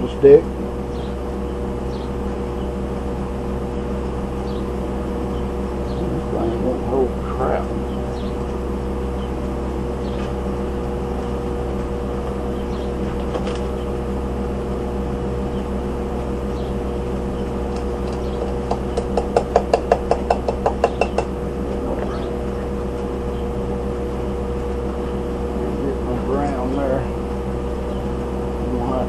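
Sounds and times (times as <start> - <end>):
welder electrical hum: 0.0 - 29.0.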